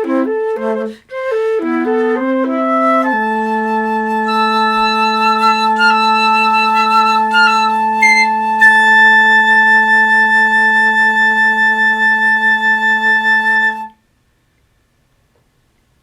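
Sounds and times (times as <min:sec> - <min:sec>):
flutes playing a chord: 0:00.0 - 0:13.9.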